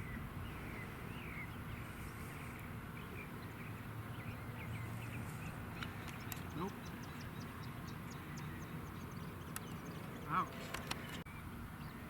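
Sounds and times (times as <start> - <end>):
birds chirping faintly: 0.0 - 12.0
low outdoor hum: 0.0 - 12.0.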